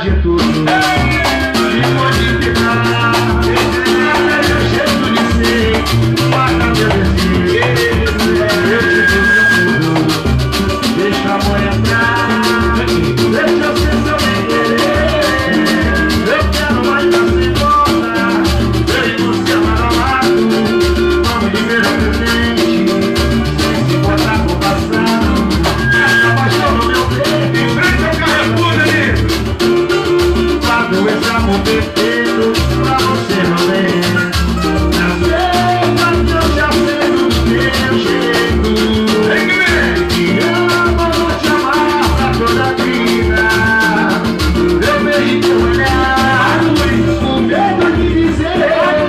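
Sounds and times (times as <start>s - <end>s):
pulsing bass beat: 0.0s - 48.8s
percussion: 0.0s - 49.0s
held instrumental notes: 0.4s - 49.0s.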